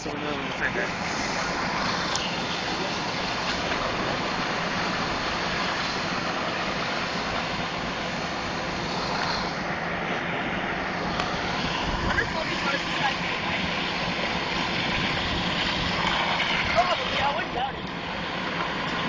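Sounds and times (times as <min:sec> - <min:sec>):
fire truck engines running: 0:00.0 - 0:19.0.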